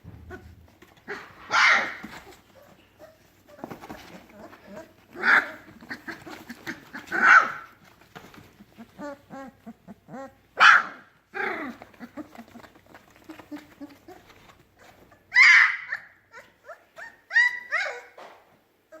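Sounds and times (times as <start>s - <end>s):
puppies squeaking and whimpering: 0.1s - 7.2s, 7.8s - 10.4s, 11.4s - 18.2s
puppy yelps: 0.2s - 7.8s, 8.8s - 18.2s.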